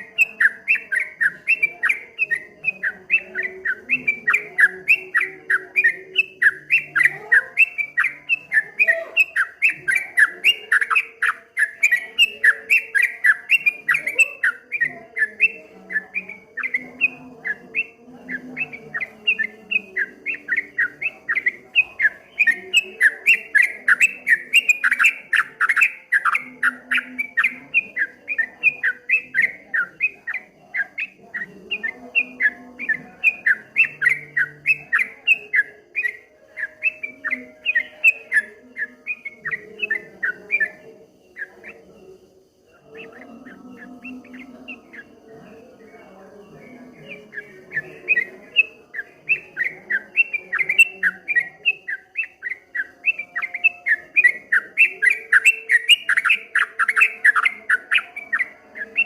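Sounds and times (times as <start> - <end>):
bird chirping song: 0.0 - 59.0.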